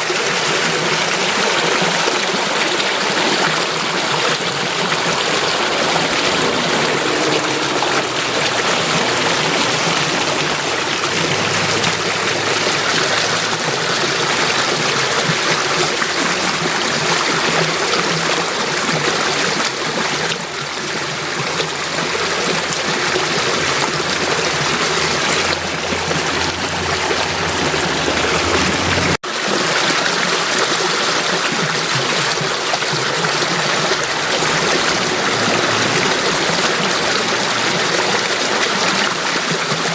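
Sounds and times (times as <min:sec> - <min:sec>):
flowing water babbling: 0:00.0 - 0:39.9.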